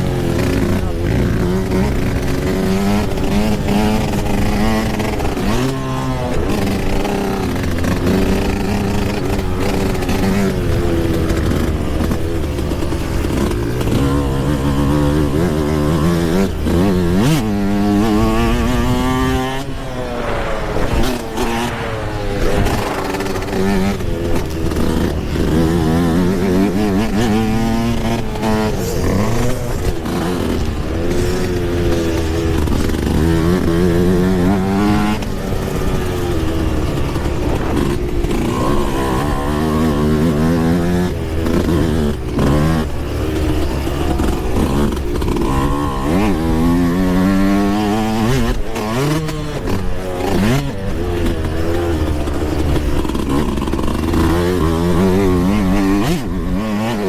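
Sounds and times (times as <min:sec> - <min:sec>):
two-stroke dirt bike engine: 0:00.0 - 0:57.0.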